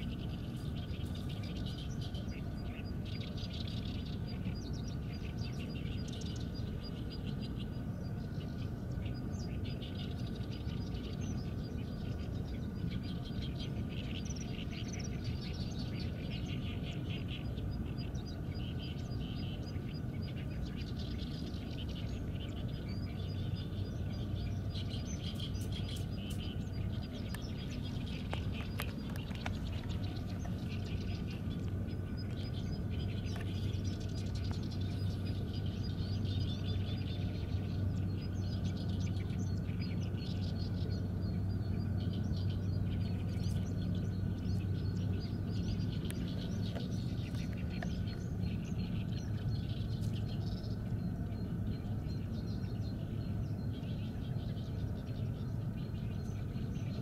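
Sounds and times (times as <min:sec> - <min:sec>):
low background rumble: 0:00.0 - 0:57.0
small birds chirping: 0:00.0 - 0:57.0.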